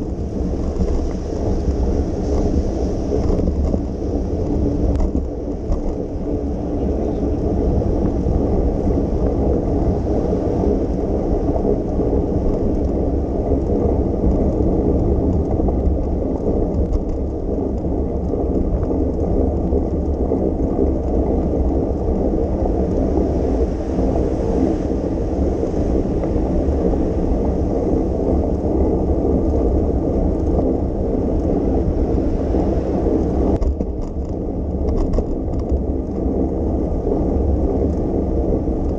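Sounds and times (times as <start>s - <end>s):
bicycle tyres on wet pavement: 0.0s - 38.9s
wind on microphone: 0.0s - 38.9s.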